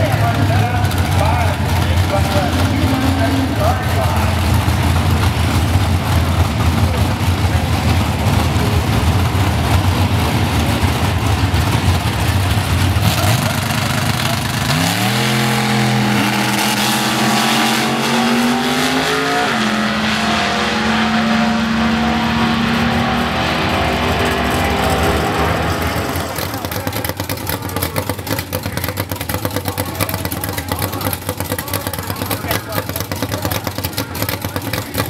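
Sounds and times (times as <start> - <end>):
drag racing engines rumbling: 0.0 - 35.0.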